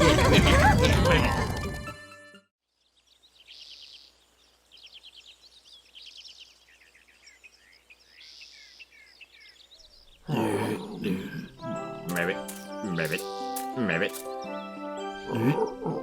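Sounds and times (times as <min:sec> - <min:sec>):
faint birdsong chirps and trills: 0:02.6 - 0:16.0.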